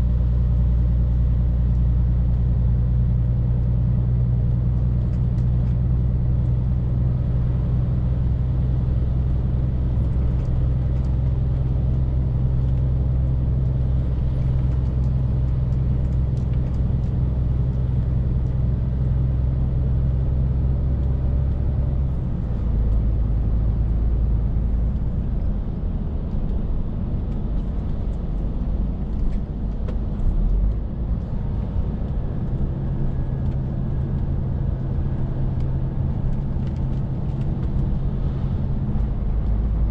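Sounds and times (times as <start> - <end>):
lorry diesel engine running: 0.0 - 39.9
tyre and road noise: 3.8 - 39.9.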